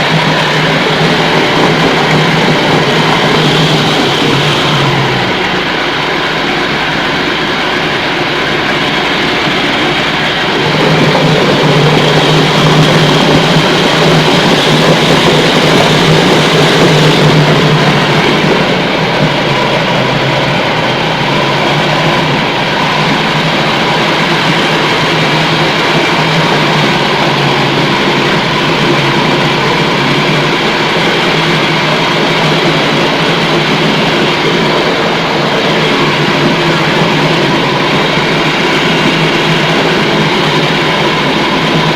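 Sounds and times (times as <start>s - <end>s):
meat grinder droning: 0.0s - 41.9s.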